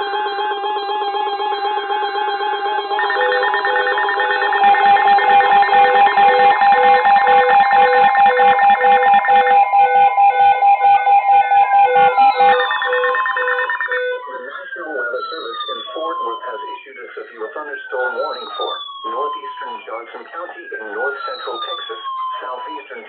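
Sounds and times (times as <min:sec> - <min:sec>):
falling siren-like sweeps: 0:00.0 - 0:23.0
rapid pulsing beep: 0:00.0 - 0:23.0
steady electronic alarm tones: 0:00.0 - 0:23.0.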